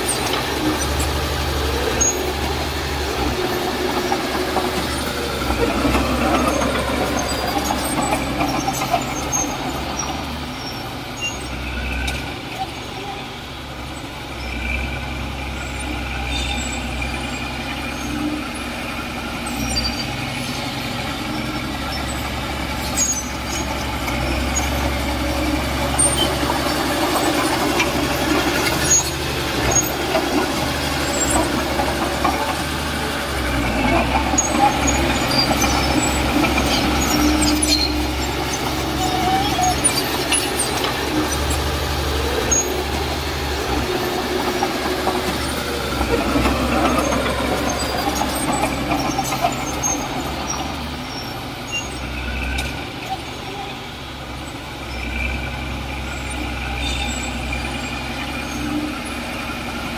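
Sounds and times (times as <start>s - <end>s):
diesel engine rumble: 0.0s - 59.9s.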